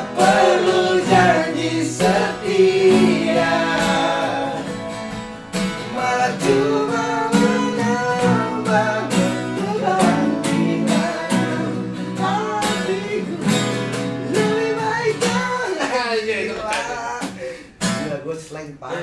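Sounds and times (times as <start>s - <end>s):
acoustic guitars strummed: 0.0s - 18.2s.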